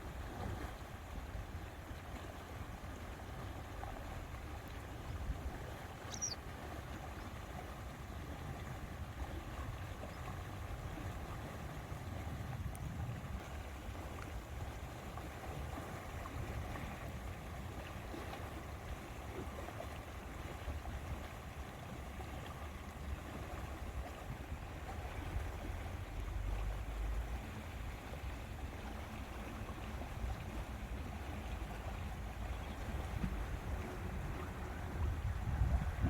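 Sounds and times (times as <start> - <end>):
wind rumbling on microphone: 0.0 - 36.0
lapping water: 0.1 - 36.0.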